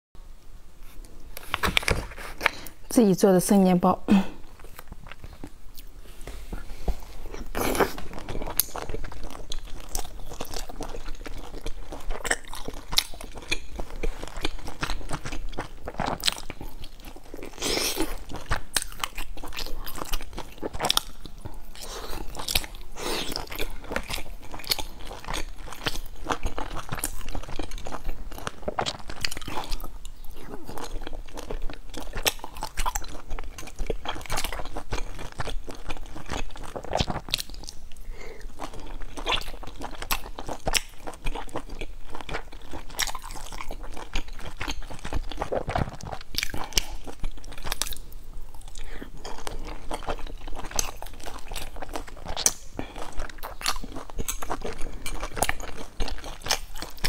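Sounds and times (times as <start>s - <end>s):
crunchy crackles of fried dough: 4.4s - 57.0s
biting and chewing: 4.5s - 57.0s.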